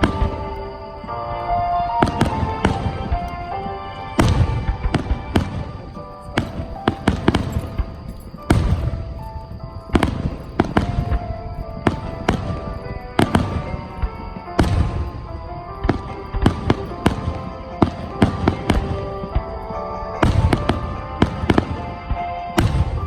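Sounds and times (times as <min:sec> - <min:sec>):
fireworks bangs echoing: 0:00.0 - 0:23.0.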